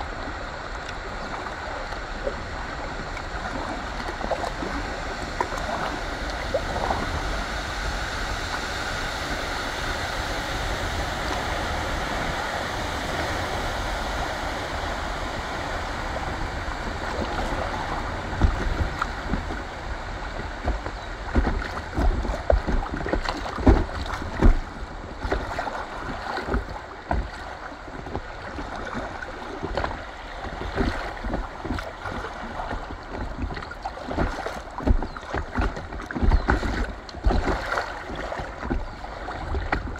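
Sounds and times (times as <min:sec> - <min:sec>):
low thumps and buffeting: 0:00.0 - 0:39.9
river water rushing: 0:00.0 - 0:39.9.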